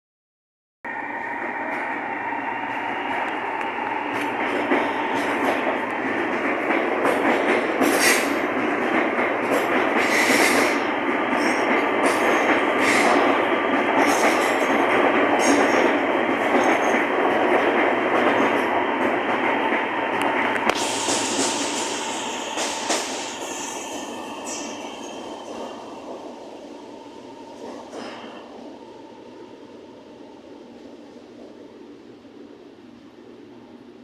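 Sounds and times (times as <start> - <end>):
electric train rolling past: 0.9 - 34.0.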